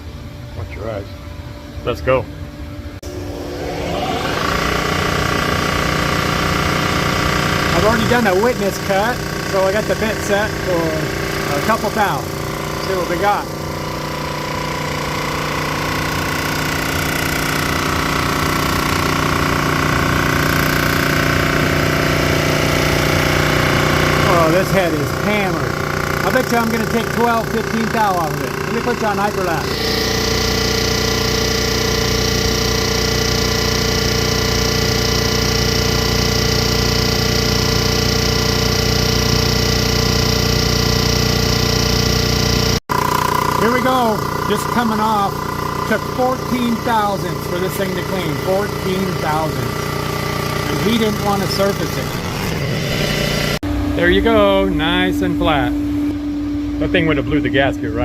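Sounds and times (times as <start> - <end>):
surfacing machine running: 1.2 - 58.0.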